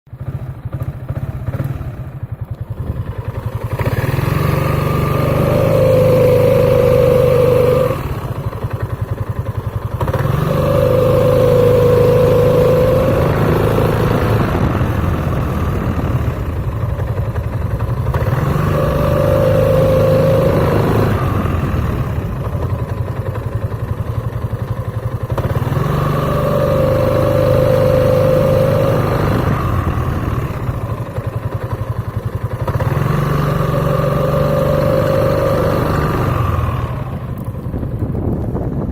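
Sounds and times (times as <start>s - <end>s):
loud droning clutch hum: 0.1s - 38.9s
scooter engine revving: 0.1s - 38.9s.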